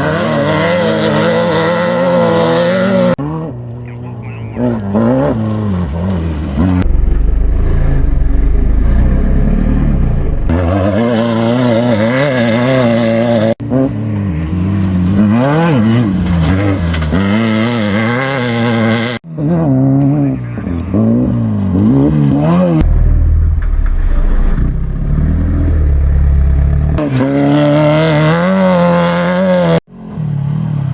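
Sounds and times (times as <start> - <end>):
race vehicle engines revving: 0.0 - 30.9.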